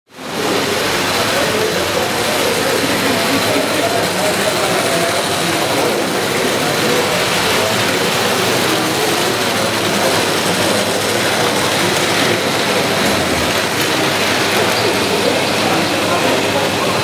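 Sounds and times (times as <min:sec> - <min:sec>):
model trains rumbling on metal track: 0:00.1 - 0:17.0.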